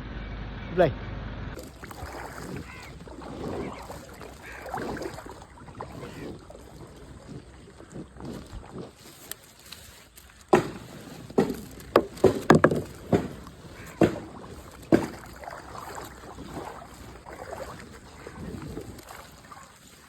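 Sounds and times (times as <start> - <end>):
kayak paddle splashing water: 1.6 - 20.0
water sloshing: 1.6 - 20.0.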